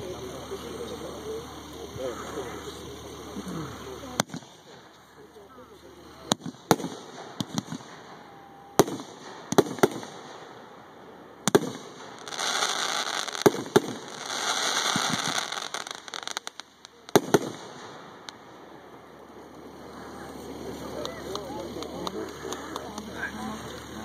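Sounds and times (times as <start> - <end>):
firework crackling hiss: 0.0 - 24.0
firework shells booming: 1.8 - 24.0.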